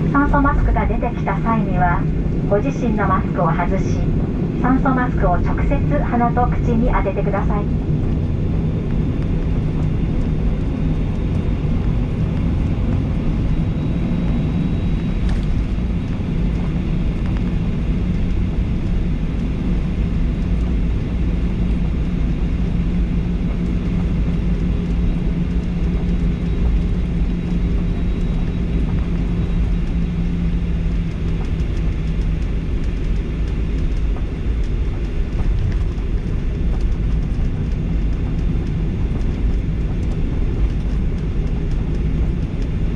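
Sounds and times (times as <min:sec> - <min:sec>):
airplane cabin rumble and hiss: 0:00.0 - 0:42.9
low hum: 0:00.0 - 0:42.9.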